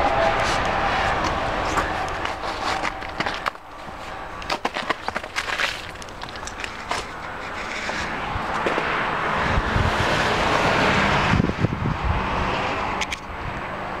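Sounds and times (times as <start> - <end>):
vehicle passing by: 0.0 - 4.5, 6.5 - 14.0.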